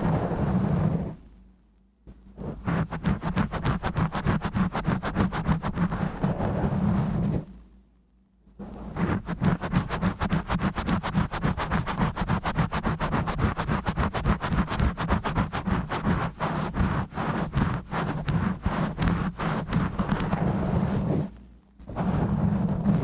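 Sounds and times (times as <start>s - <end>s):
scratching on microphone: 0.0s - 1.2s, 2.1s - 7.6s, 8.6s - 23.0s
low rumble from microphone rubbing: 0.0s - 23.0s.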